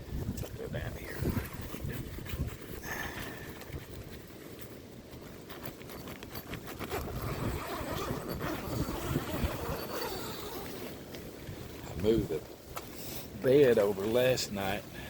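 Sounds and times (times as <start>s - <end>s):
wind noise on microphone: 0.0s - 13.4s
tent walls flapping in wind: 0.0s - 14.9s.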